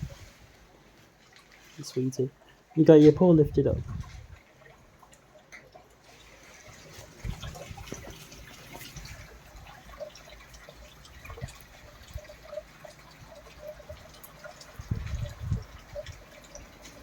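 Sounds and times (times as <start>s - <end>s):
drips and splashes: 0.0s - 17.0s.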